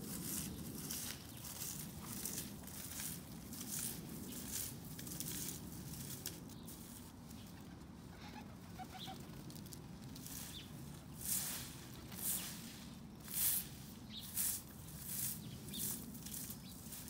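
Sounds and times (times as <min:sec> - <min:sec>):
broom sweeping leaves on asphalt: 0:00.0 - 0:07.6, 0:08.2 - 0:17.0.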